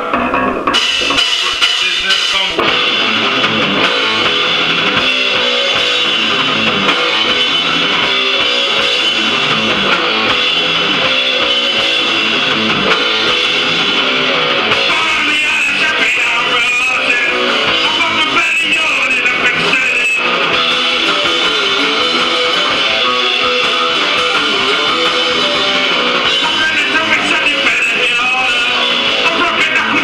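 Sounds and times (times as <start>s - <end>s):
punk rock band playing: 0.0s - 30.0s.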